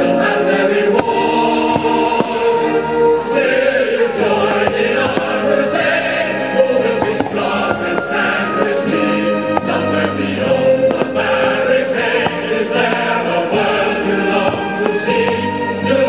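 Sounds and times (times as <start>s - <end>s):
choral music: 0.0s - 16.0s
firework bangs: 0.9s - 15.5s.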